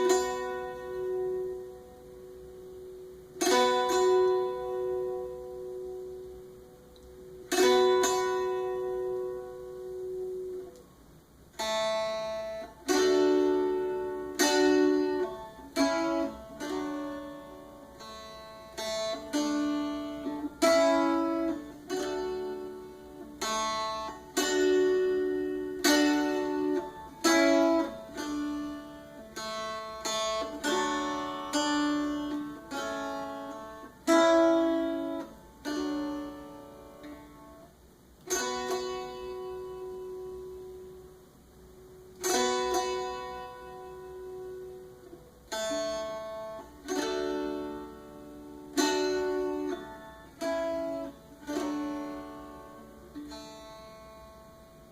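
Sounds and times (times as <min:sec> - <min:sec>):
slow string instrument melody: 0:00.0 - 0:54.9.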